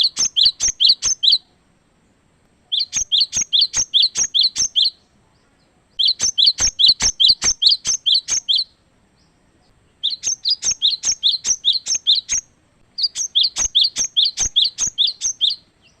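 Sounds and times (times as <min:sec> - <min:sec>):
bird singing whistled notes: 0:00.0 - 0:01.6, 0:02.7 - 0:16.0.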